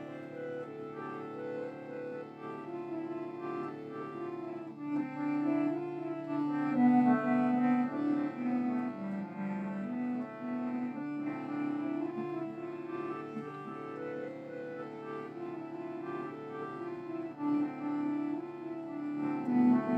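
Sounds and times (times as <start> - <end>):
slow instrumental melody: 0.0 - 19.9.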